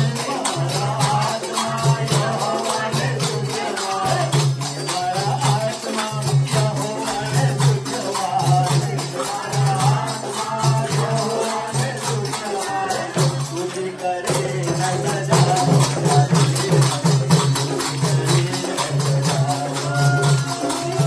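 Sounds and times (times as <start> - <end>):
group singing a hymn: 0.0 - 21.0
jingling percussion: 0.0 - 21.0
tabla drums: 0.0 - 21.0.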